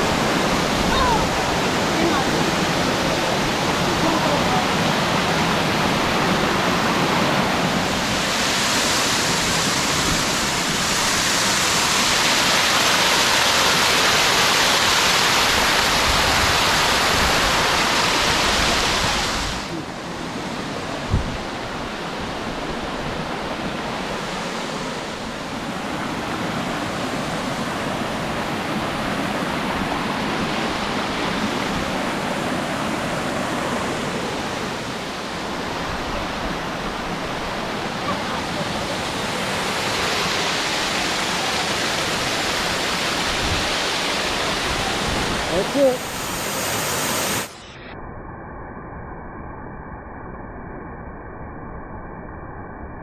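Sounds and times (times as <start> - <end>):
waterfall rushing: 0.0 - 21.0, 23.3 - 47.6.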